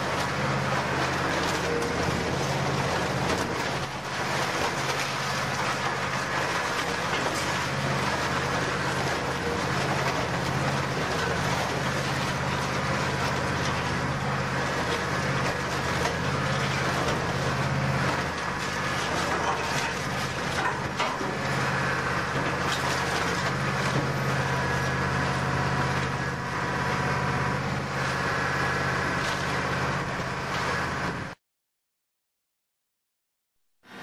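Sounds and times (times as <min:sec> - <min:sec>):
scrap metal being shredded: 0:00.0 - 0:31.4
shredder low drone: 0:00.0 - 0:31.4.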